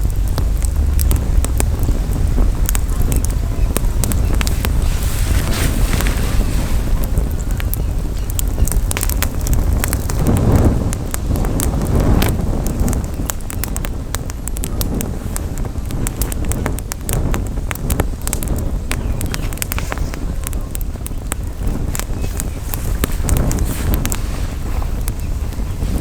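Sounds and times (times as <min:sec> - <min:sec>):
campfire crackling: 0:00.0 - 0:26.0
wind on microphone: 0:00.0 - 0:26.0.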